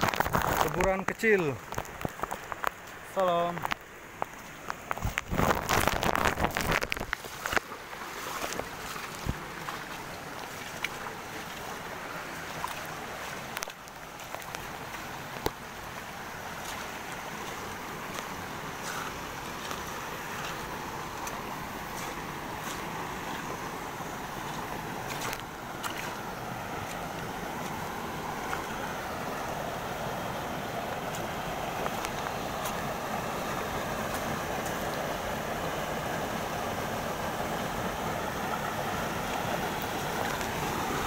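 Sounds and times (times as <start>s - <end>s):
waterfall and stream rushing: 0.0s - 41.0s.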